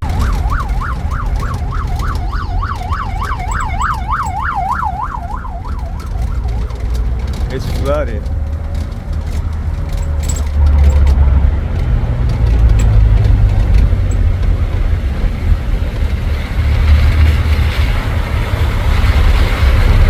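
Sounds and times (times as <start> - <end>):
road noise: 0.0 - 20.0
tuk-tuk engine rumble: 0.0 - 20.0.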